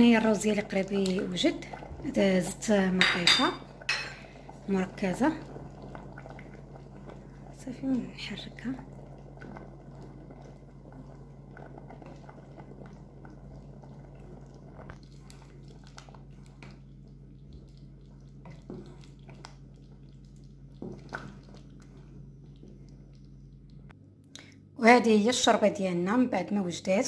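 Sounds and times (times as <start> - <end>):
soup bubbling in a pot: 0.0 - 24.0
steady low hum: 0.0 - 27.0.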